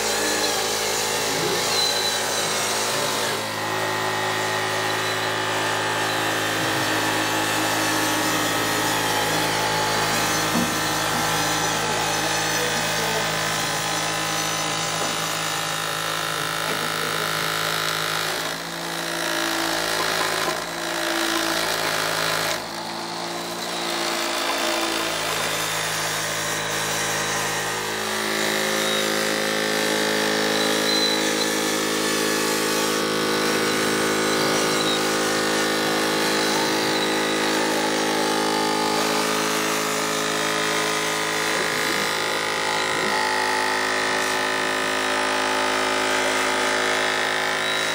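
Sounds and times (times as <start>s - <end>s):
machine humming: 0.0s - 47.9s.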